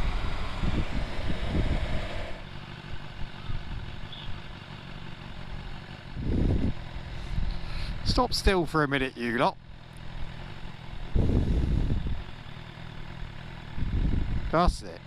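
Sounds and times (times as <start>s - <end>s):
motorcycle engine and road rumble: 0.0s - 15.0s.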